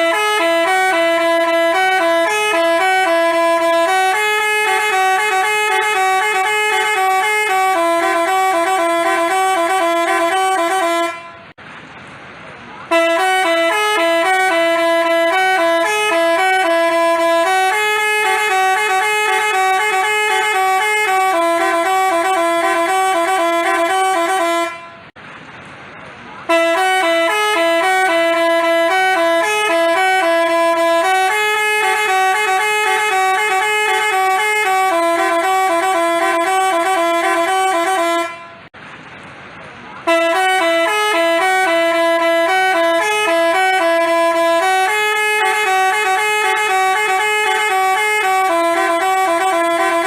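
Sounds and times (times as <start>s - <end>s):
multi-tone bus horn melody: 0.0s - 11.6s, 12.8s - 25.2s, 26.4s - 38.8s, 40.0s - 50.0s.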